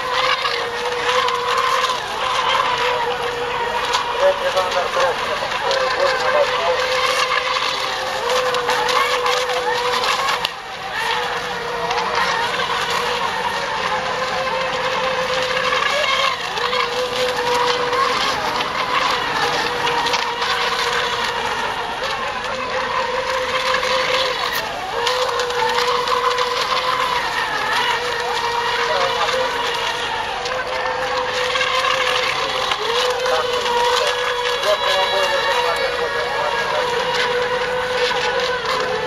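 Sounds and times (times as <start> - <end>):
model boat motor whine: 0.0 - 39.0.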